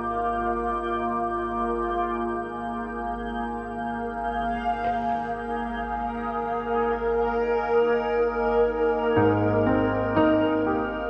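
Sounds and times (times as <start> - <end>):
slow calm background music: 0.0 - 11.0.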